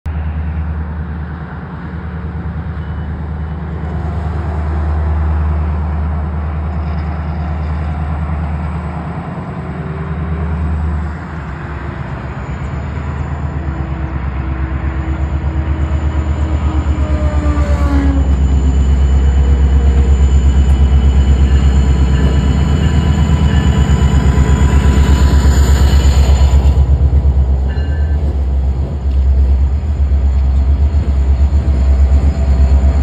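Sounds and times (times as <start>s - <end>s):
diesel locomotive engine rumbling: 0.0s - 33.0s.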